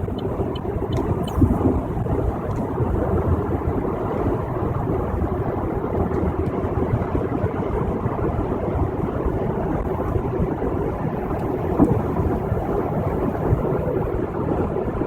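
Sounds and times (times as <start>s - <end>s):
car road noise at highway speed: 0.0s - 14.2s.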